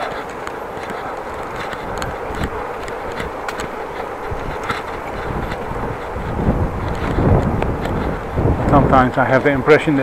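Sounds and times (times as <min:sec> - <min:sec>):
bike clicks and rattles: 0:00.0 - 0:10.0
tyres rumbling on road: 0:00.0 - 0:10.0
wind on microphone: 0:00.0 - 0:10.0.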